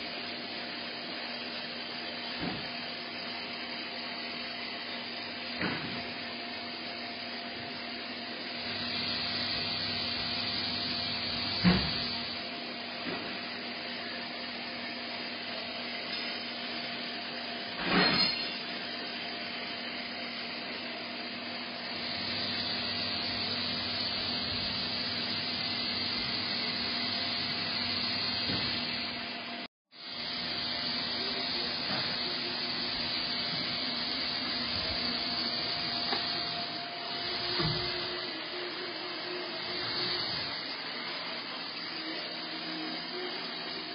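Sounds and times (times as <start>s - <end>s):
machine hum and hiss: 0.0s - 43.9s.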